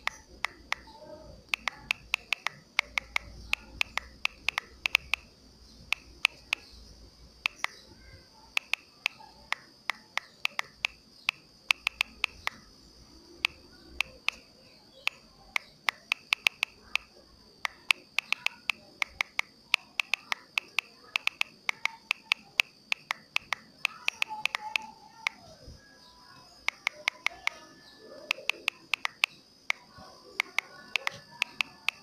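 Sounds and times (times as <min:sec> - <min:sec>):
touchscreen keyboard clicks: 0:00.0 - 0:05.3, 0:05.9 - 0:06.7, 0:07.4 - 0:07.8, 0:08.6 - 0:12.6, 0:13.4 - 0:14.5, 0:15.1 - 0:25.4, 0:26.6 - 0:29.8, 0:30.4 - 0:32.0.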